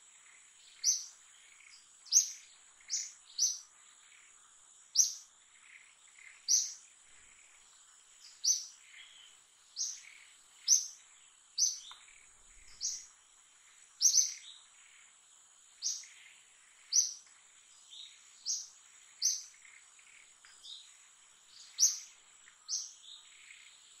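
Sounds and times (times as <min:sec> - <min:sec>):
high insect drone: 0:00.0 - 0:24.0
bird chirping: 0:00.1 - 0:15.1, 0:15.8 - 0:24.0.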